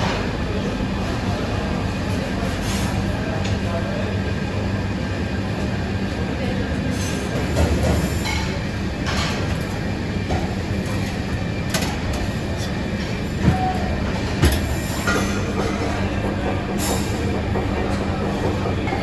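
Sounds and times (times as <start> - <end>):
kitchen mechanical rumble and hum: 0.0 - 19.0.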